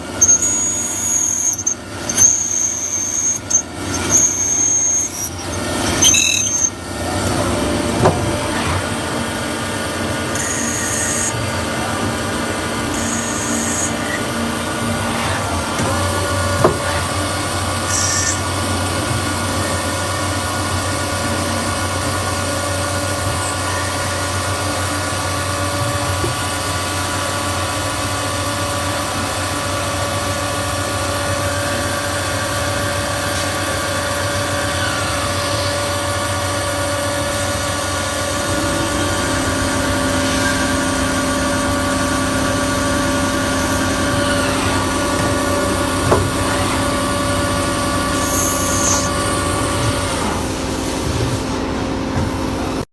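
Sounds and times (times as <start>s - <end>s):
lathe machine hum: 0.0s - 52.9s.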